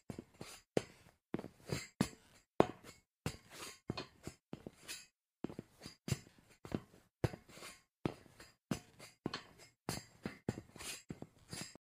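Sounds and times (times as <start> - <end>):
footsteps on metal grate: 0.0 - 11.8.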